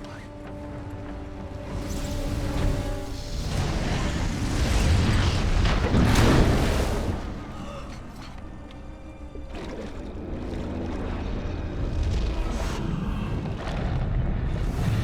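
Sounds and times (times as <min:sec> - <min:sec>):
orchestral score: 0:00.0 - 0:15.0.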